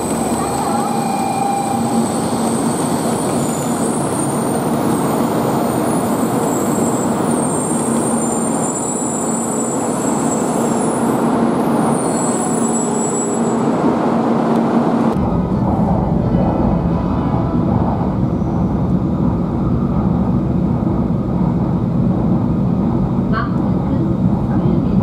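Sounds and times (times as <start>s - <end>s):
deep train rumble: 0.0s - 25.0s
train rushing run noise: 0.0s - 25.0s.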